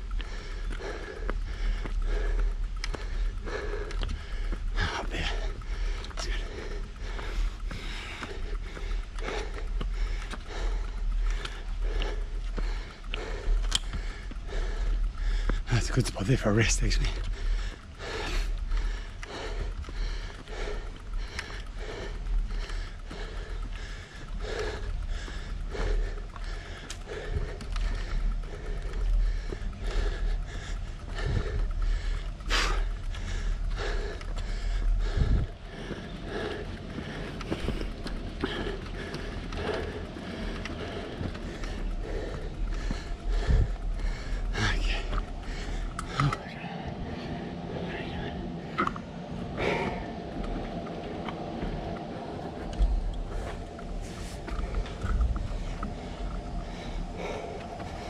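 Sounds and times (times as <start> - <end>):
hard breathing: 0.0 - 58.0
wind buffeting microphone: 0.0 - 58.0.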